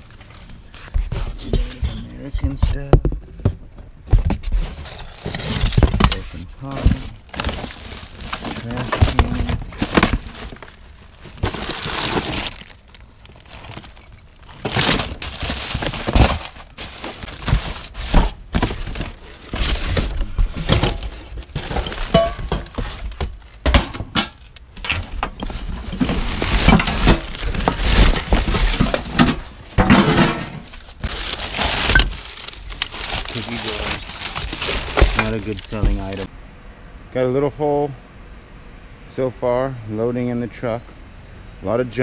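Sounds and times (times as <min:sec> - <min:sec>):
paper crinkling and rustling: 0:00.0 - 0:02.1, 0:04.4 - 0:36.3.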